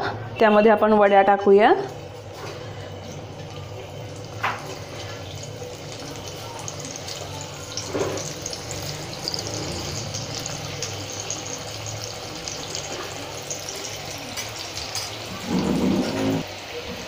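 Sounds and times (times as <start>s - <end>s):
hot oil sizzling: 1.4s - 17.0s.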